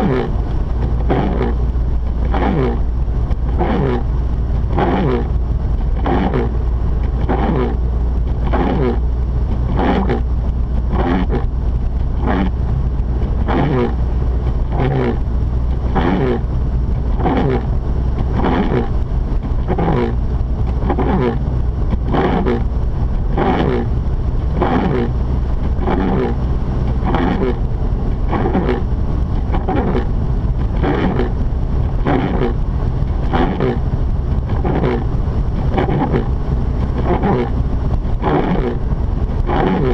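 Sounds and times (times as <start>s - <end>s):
car engine and tyre rumble: 0.0s - 39.9s
windshield wipers swishing: 0.0s - 39.9s.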